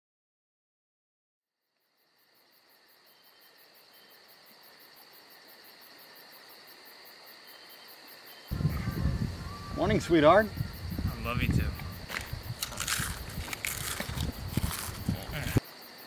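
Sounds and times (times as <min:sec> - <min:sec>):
insects chirping: 0:01.6 - 0:16.0.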